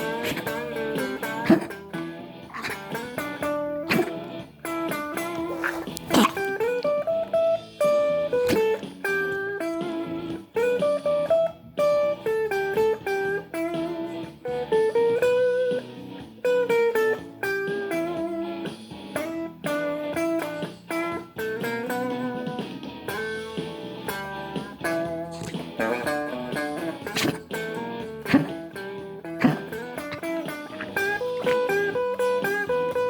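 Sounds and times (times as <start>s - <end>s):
blues guitar playing: 0.0s - 33.0s.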